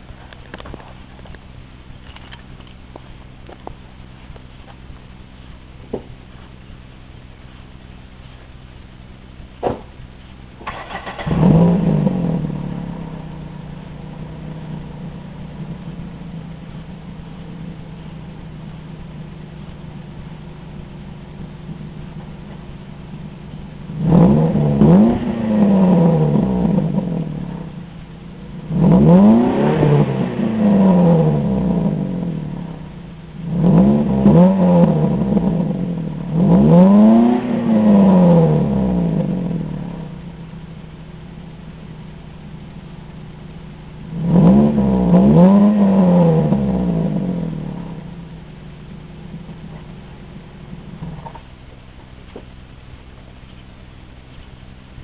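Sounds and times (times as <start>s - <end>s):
car engine idling: 0.0s - 55.0s
car engine revving: 0.0s - 55.0s.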